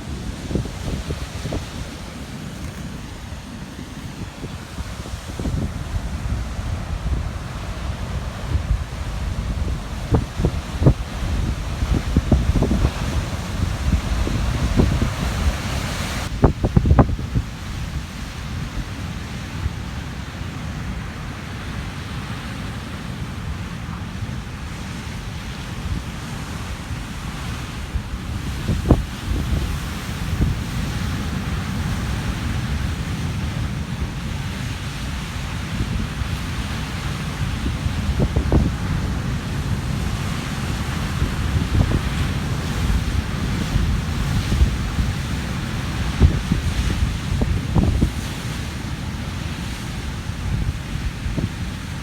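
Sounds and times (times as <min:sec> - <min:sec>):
surf breaking on rocky shore: 0:00.0 - 0:52.0
wind buffeting microphone: 0:00.0 - 0:52.0.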